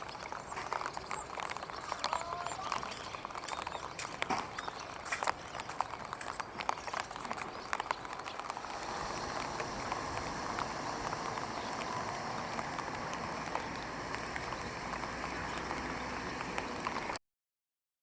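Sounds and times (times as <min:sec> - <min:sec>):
drops ticking close by: 0:00.0 - 0:17.2
steady rain falling: 0:00.0 - 0:17.2.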